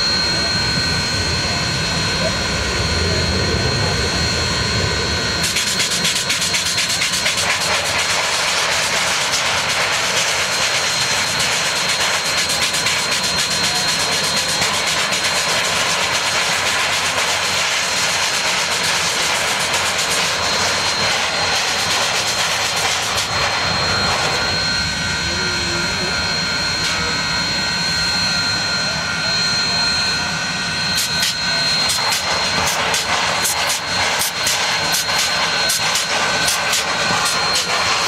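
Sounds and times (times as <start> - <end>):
steady high whine: 0.0 - 38.0.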